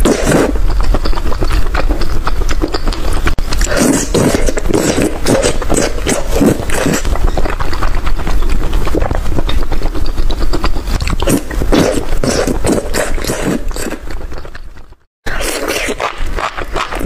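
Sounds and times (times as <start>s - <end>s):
crunching and chewing food: 0.0s - 17.0s.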